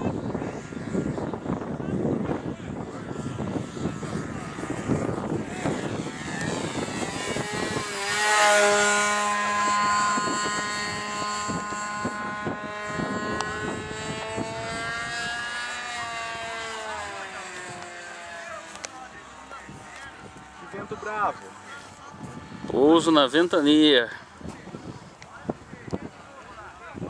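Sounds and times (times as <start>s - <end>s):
model airplane engine passing: 0.0s - 27.0s
wind on microphone: 0.0s - 27.0s.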